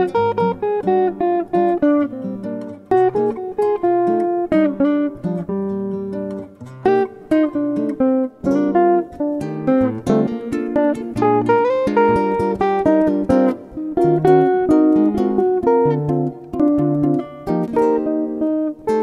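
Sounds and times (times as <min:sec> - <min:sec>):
quick plucked string melody: 0:00.0 - 0:19.0.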